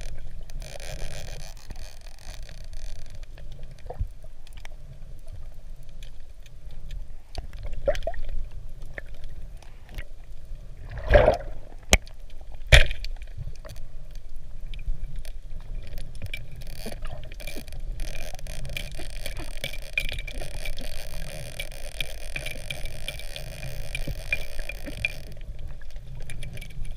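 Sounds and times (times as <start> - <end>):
high hiss with crackling ticks: 0.0 - 10.9, 11.7 - 26.9.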